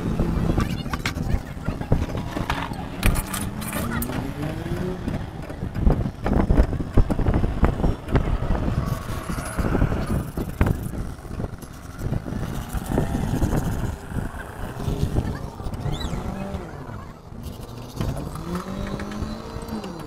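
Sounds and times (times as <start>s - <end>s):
background vehicle noise: 0.0s - 20.0s.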